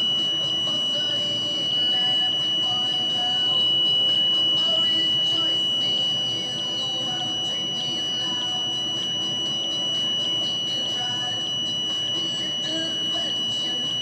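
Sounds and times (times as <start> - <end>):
high-pitched electronic tone: 0.0 - 14.0.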